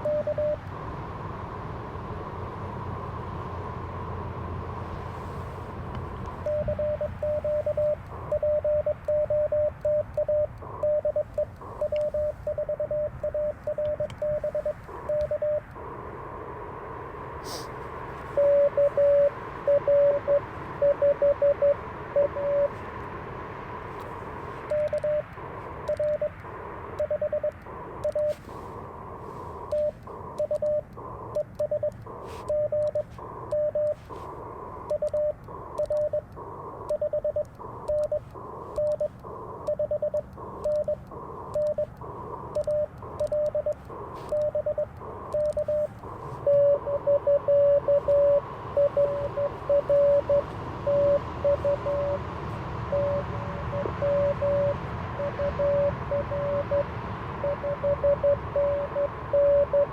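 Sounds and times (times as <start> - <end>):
morse code reply: 0.0 - 0.6, 6.3 - 16.2, 18.0 - 22.9, 23.9 - 59.9
morse code sidetone: 0.0 - 0.7, 6.4 - 16.0, 18.2 - 22.9, 23.9 - 28.6, 29.2 - 59.9
receiver hiss: 0.0 - 59.9.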